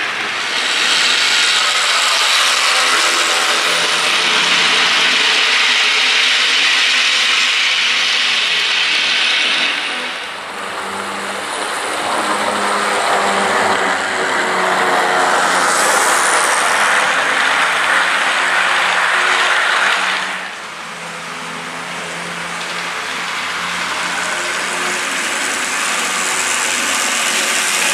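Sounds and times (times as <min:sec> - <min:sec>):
model train cars rolling on rails: 0:00.0 - 0:27.9.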